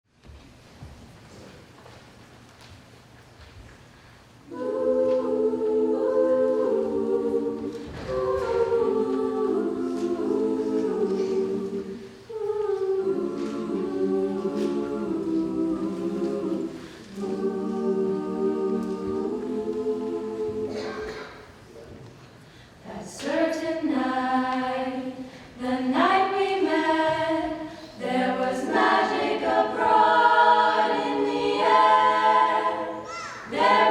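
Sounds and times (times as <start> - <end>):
women singing in harmony: 4.5 - 21.2, 22.8 - 33.9.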